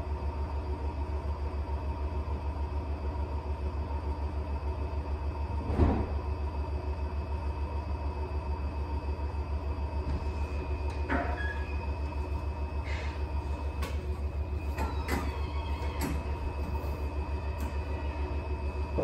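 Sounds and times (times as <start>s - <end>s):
washing machine spinning: 0.5s - 19.0s.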